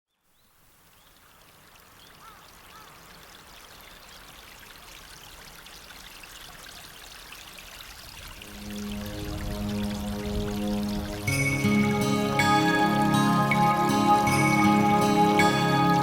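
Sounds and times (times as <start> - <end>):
stream water running: 0.2 - 16.0.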